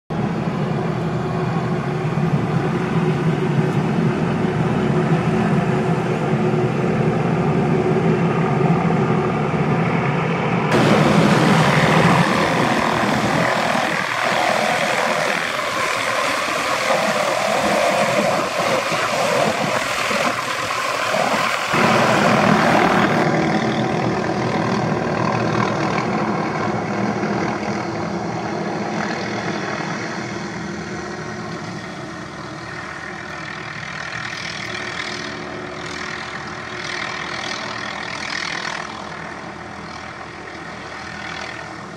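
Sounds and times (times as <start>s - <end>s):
helicopter engine and rotor: 0.1s - 41.9s.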